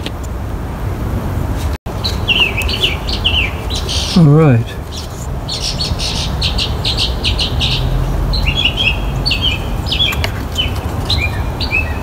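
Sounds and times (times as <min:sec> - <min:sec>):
small birds chirping: 0:01.9 - 0:12.0.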